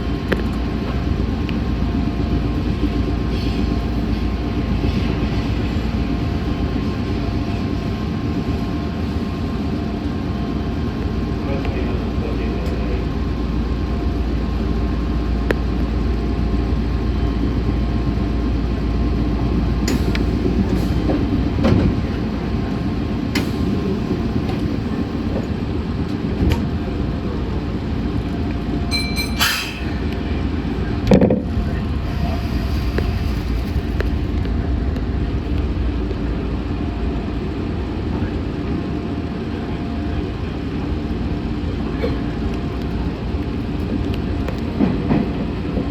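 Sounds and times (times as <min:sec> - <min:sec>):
train wheels rumbling: 0:00.0 - 0:45.9.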